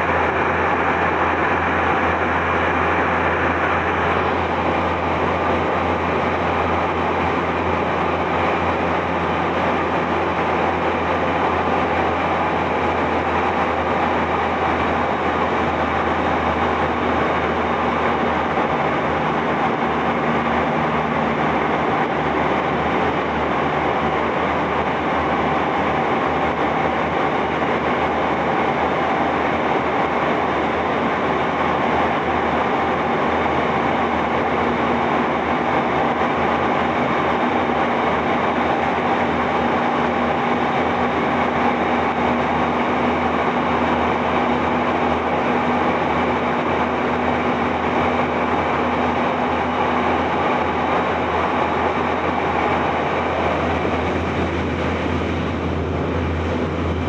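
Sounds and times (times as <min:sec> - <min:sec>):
low hum: 0:00.0 - 0:57.0
train wheels rumbling on rail: 0:00.0 - 0:57.0.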